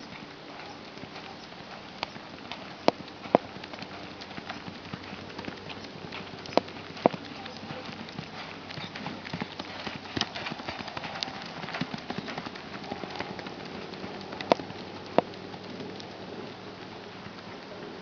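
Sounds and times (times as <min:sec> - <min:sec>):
sharp clicks: 0:00.0 - 0:16.6
horse hoofbeats: 0:00.0 - 0:18.0.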